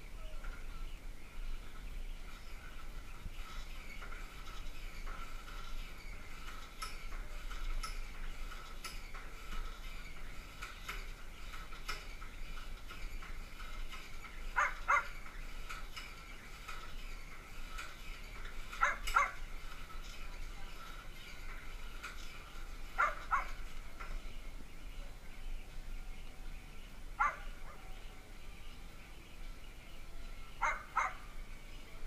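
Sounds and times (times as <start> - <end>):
outdoor chirring: 0.0 - 32.0.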